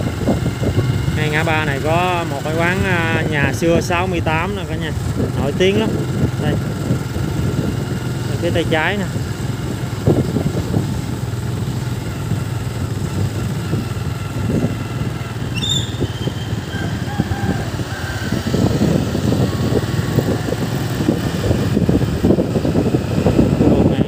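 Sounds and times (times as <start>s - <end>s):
motorbike engine running: 0.0s - 24.0s
wind noise on microphone: 0.0s - 24.0s.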